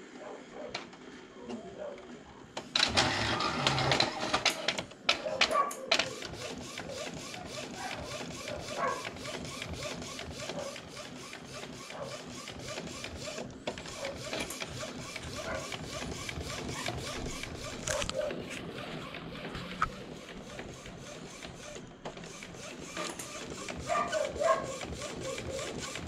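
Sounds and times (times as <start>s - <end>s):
inkjet printer printing: 0.1s - 26.0s
print carriage ticking: 2.6s - 26.0s.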